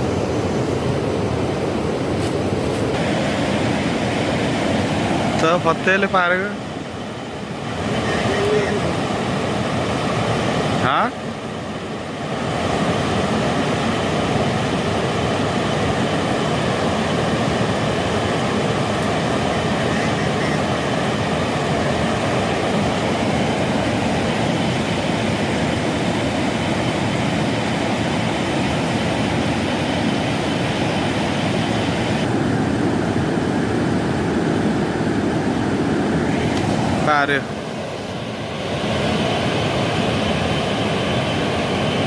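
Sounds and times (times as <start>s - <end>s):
fast-flowing river rushing: 0.0s - 42.0s.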